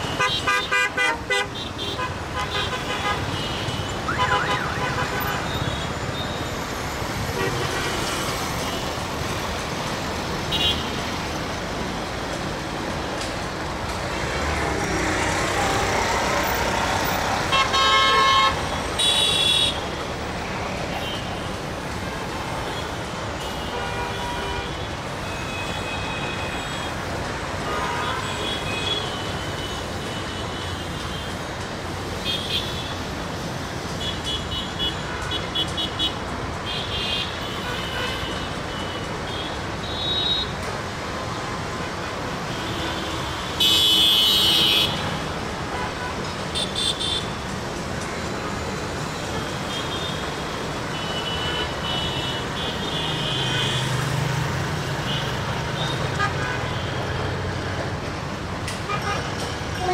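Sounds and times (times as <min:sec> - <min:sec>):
city traffic: 0:00.0 - 0:59.9.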